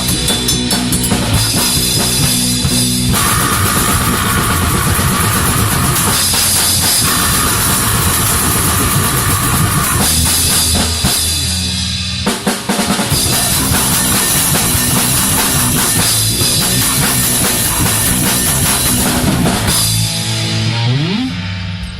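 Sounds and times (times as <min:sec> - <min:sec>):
drum kit pounding: 0:00.0 - 0:21.9
heavy rock music: 0:00.0 - 0:21.9.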